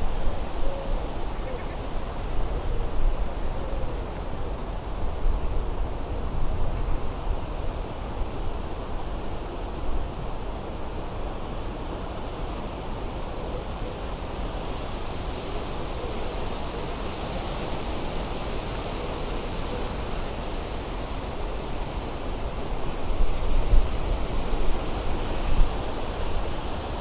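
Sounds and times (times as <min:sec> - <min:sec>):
strong wind through trees: 0:00.0 - 0:27.0.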